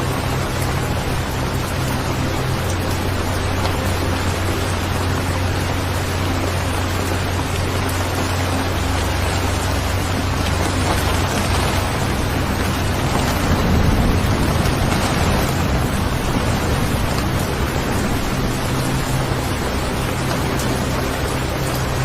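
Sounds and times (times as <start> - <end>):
heavy rain: 0.0 - 22.0
low drone of held tones: 0.0 - 22.0.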